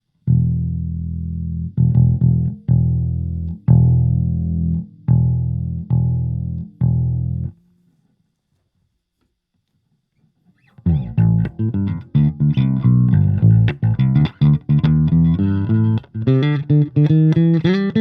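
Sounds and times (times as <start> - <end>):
plucked electric bass notes: 0.2 - 7.6, 10.8 - 18.0.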